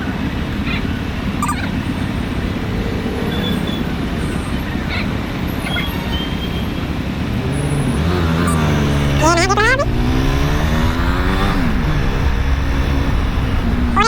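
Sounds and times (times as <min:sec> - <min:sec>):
city traffic noise: 0:00.0 - 0:14.0.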